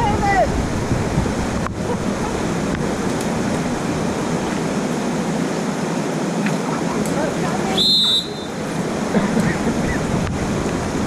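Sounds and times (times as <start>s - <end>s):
river whitewater rushing: 0.0s - 11.0s.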